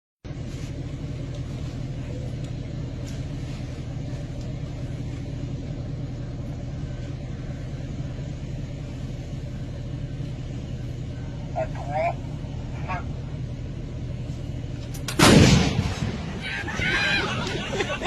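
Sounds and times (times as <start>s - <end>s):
machine humming: 0.2s - 18.0s.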